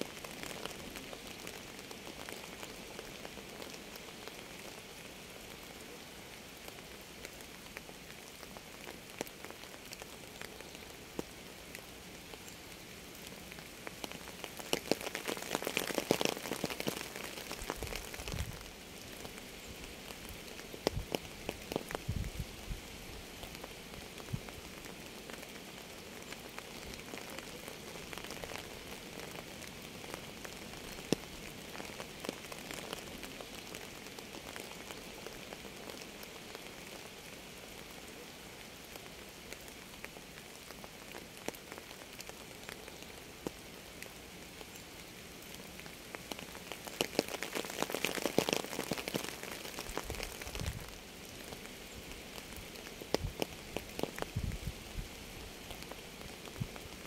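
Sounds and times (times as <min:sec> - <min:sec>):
rain falling: 0:00.0 - 0:57.0
raindrops ticking on a surface: 0:00.0 - 0:57.0.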